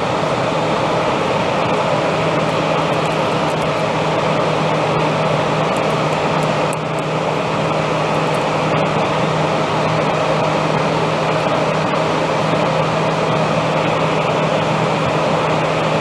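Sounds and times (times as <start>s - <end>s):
airliner cabin rush of air: 0.0s - 16.0s
constant low hum: 0.0s - 16.0s.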